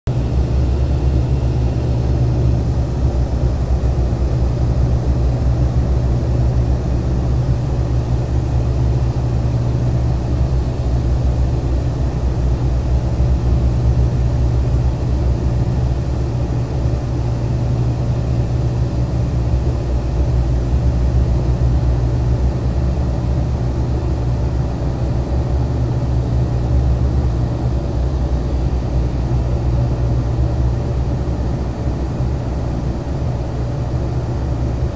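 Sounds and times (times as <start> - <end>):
propeller engines droning: 0.1 - 34.9.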